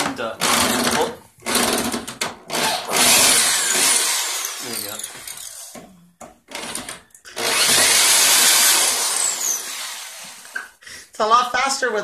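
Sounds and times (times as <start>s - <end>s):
power drill whining: 0.4s - 5.8s, 6.5s - 10.7s.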